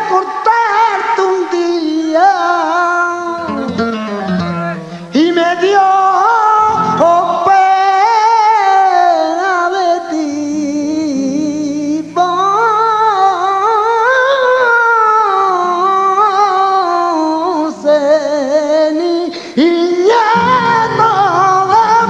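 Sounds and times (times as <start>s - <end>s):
flamenco guitar: 0.0s - 17.8s, 18.8s - 22.0s
man singing flamenco: 0.0s - 22.0s.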